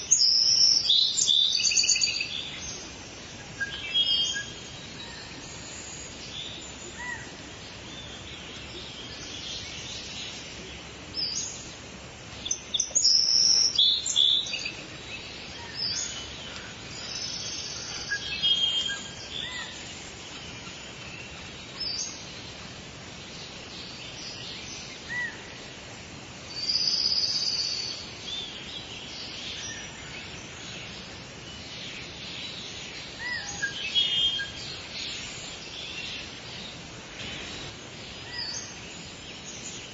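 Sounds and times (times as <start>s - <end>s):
background hiss: 0.0s - 39.9s
birds chirping and trilling: 0.0s - 39.9s.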